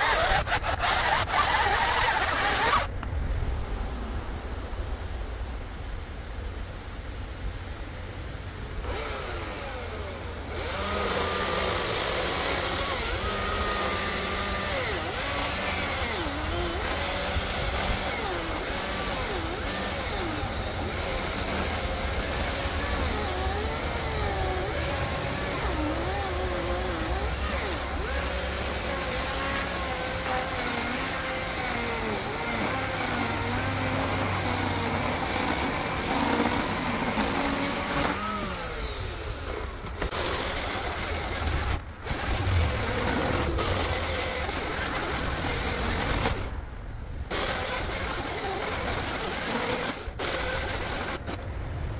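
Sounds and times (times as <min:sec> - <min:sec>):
electric chainsaw cutting log: 0:00.0 - 0:02.9, 0:08.8 - 0:46.6, 0:47.3 - 0:51.5.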